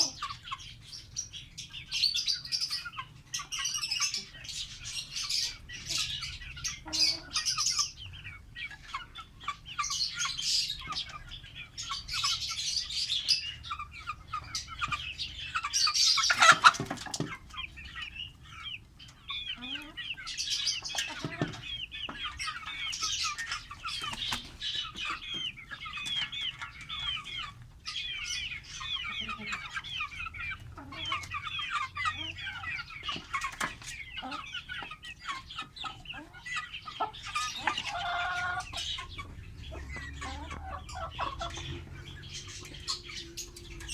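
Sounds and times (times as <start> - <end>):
lovebirds chattering: 0.0 - 43.9.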